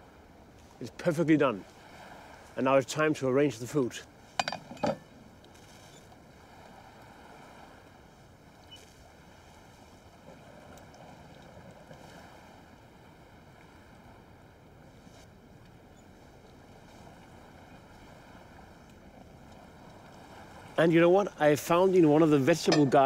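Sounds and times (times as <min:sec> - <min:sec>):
surf: 0:00.0 - 0:23.0
wind: 0:00.0 - 0:23.0.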